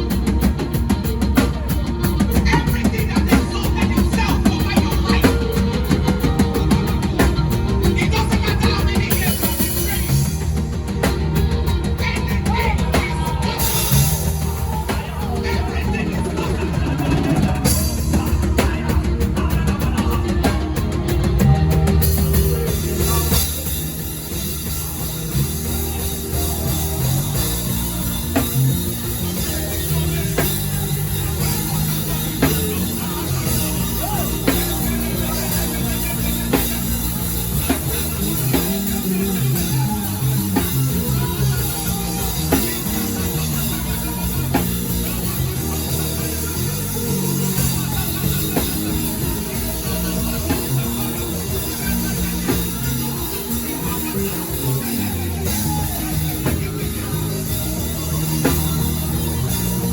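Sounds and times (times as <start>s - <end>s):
band playing instrumental music: 0.0s - 59.9s
sustained bass notes: 0.0s - 59.9s.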